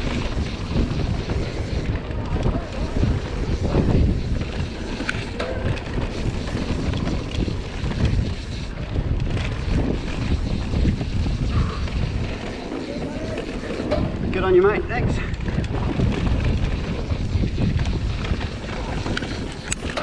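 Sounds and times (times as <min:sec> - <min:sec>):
bike rattling: 0:00.0 - 0:20.0
bike tyres rumbling on dirt trail: 0:00.0 - 0:20.0
wind on microphone: 0:00.0 - 0:20.0.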